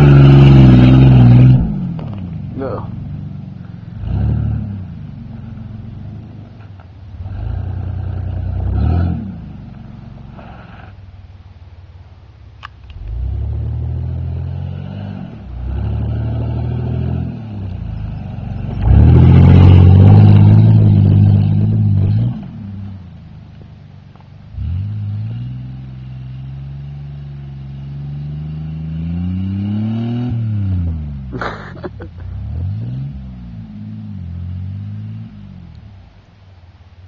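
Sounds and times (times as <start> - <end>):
truck engine revving: 0.0 - 11.0, 12.6 - 23.1, 24.5 - 35.8.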